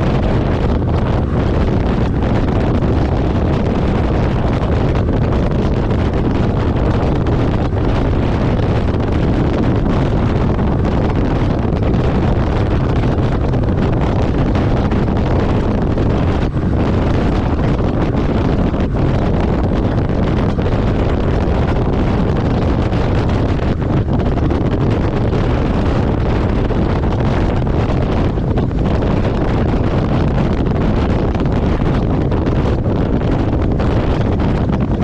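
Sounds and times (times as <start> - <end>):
truck rumbling: 0.0 - 35.0
wind noise on microphone: 0.0 - 35.0.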